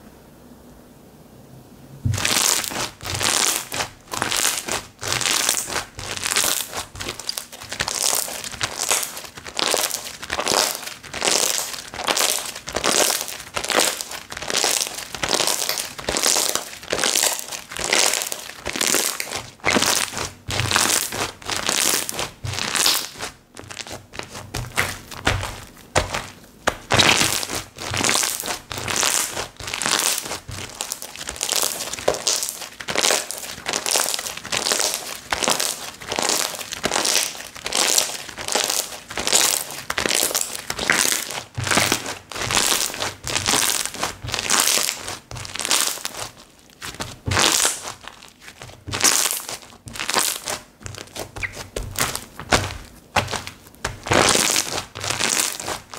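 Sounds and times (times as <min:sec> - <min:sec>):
slime squished by hand: 0:02.1 - 0:55.9.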